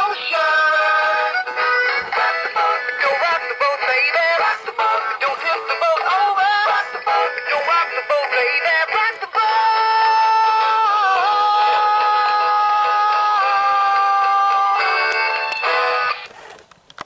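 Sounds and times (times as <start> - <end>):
synthetic sung melody from speaker: 0.0 - 16.2.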